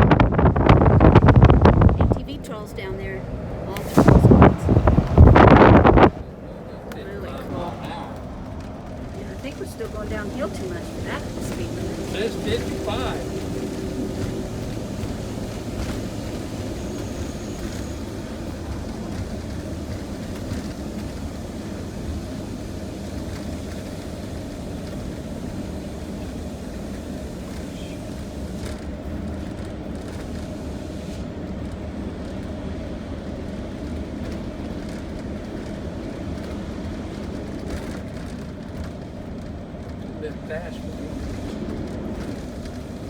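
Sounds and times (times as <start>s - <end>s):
engine and road noise in cab: 0.0s - 43.0s.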